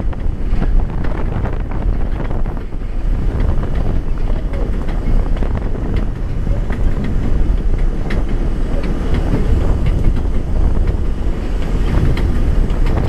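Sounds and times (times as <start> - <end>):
rail joint clicks: 0.0 - 13.0
wheels rumbling on rail: 0.0 - 13.0.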